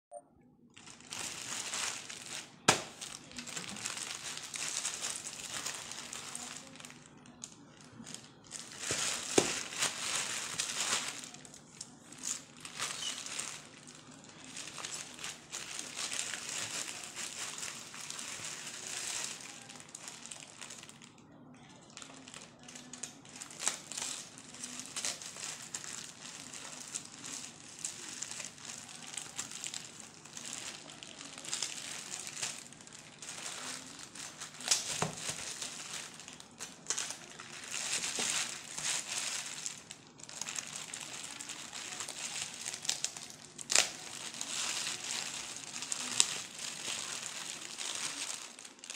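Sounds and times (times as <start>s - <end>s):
plastic bag crinkling: 0.7s - 48.9s.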